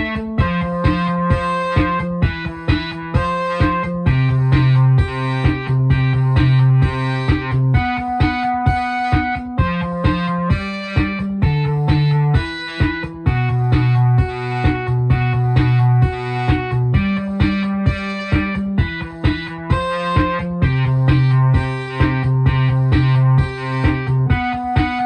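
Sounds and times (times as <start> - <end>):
buzzy synthesizer sequence: 0.0 - 25.0.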